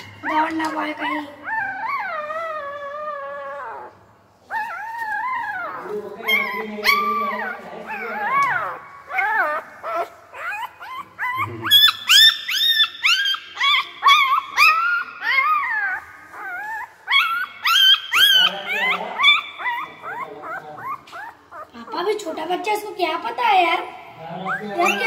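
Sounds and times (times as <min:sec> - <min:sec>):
puppy whimpering: 0:00.0 - 0:25.0.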